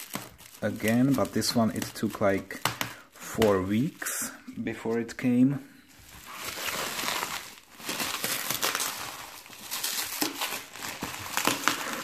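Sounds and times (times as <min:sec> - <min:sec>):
bubble wrap crackles: 0:00.0 - 0:05.1, 0:05.9 - 0:12.0
bubble wrap crinkling: 0:00.0 - 0:05.1, 0:05.9 - 0:12.0.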